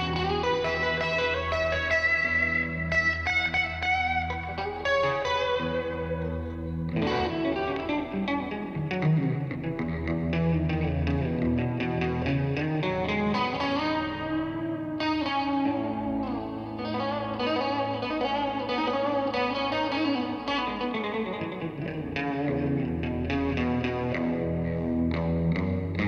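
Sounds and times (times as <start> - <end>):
distorted electric guitar lead: 0.0 - 26.0.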